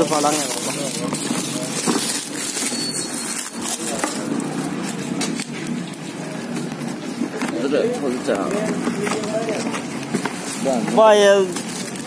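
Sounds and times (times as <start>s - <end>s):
plastic wrapping crinkling: 0.0s - 12.0s
steady noisy background: 0.0s - 12.0s.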